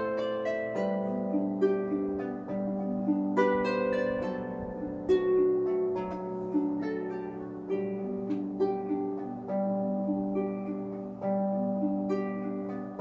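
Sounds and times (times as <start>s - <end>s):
harp low bass notes: 0.0s - 13.0s
harp plucked melody: 0.0s - 13.0s.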